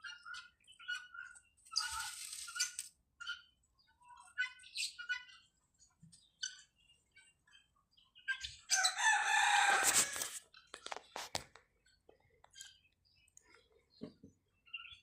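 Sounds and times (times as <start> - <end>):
faint bird chirps: 0.0 - 9.0, 11.8 - 15.0.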